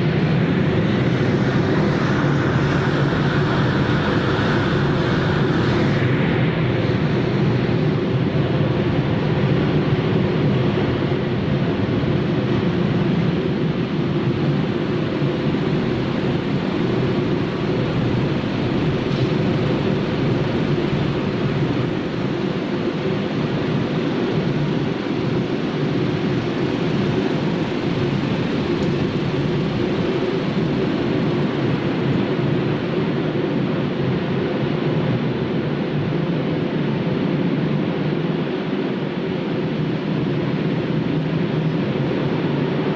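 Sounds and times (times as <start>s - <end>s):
low mechanical machinery noise: 0.0s - 42.9s.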